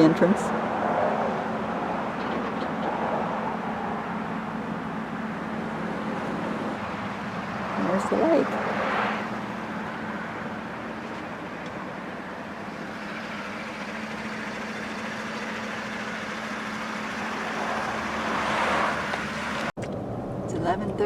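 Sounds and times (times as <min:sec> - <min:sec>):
road and engine noise inside vehicle: 0:00.0 - 0:21.0.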